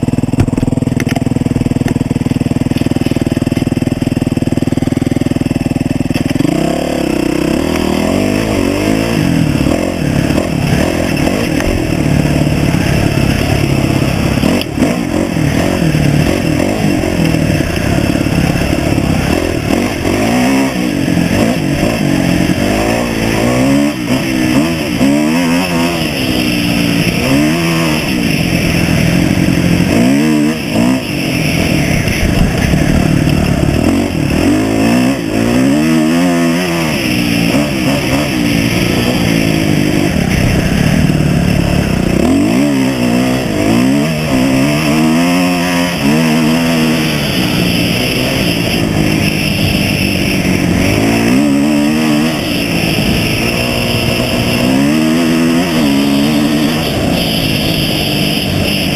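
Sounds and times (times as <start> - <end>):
off-road engine revving: 0.0 - 58.9.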